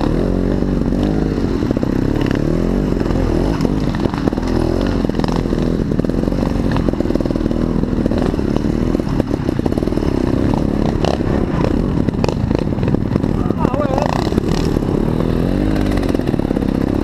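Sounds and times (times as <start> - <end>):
knocks and rattles from bike: 0.0 - 17.0
motorcycle engine revving: 0.0 - 17.0.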